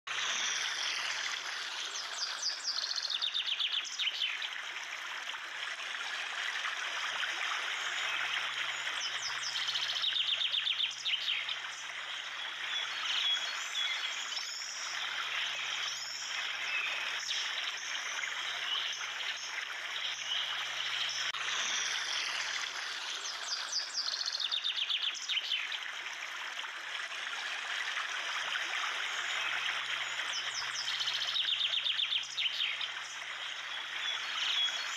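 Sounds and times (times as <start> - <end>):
running water: 0.1 - 34.9.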